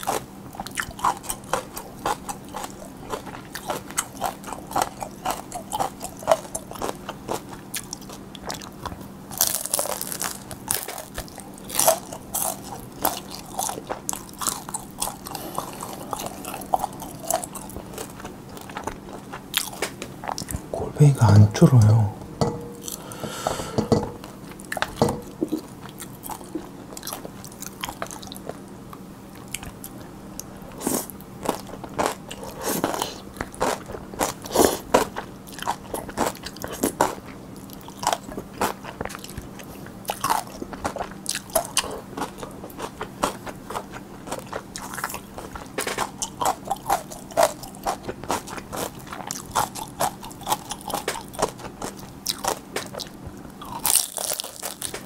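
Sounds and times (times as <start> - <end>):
wet chewing and crunching: 0.0 - 20.7, 24.1 - 55.0
faint low hum: 0.0 - 55.0.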